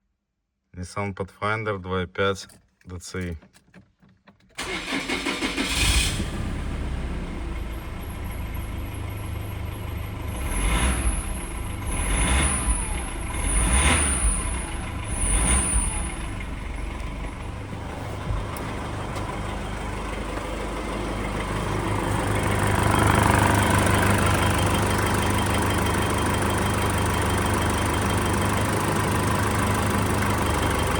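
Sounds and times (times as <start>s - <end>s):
diesel engine starting and idling: 4.6s - 30.9s.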